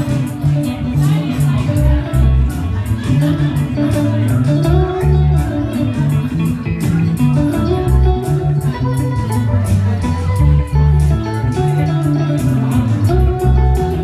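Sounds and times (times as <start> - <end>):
bass guitar line: 0.0 - 14.0
drums and cymbals: 0.0 - 14.0
electric guitars playing: 0.0 - 14.0.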